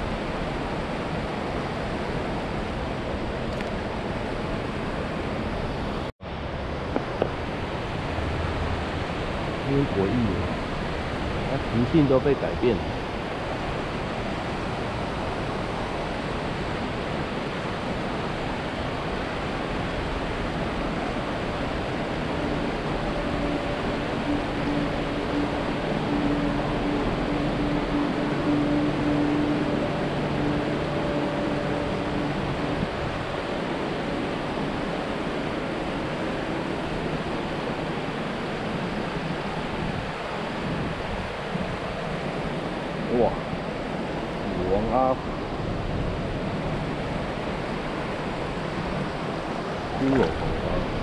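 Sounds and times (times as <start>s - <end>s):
river water rushing: 0.0s - 51.0s
train hum on a bridge: 0.0s - 51.0s
wind noise: 0.0s - 51.0s.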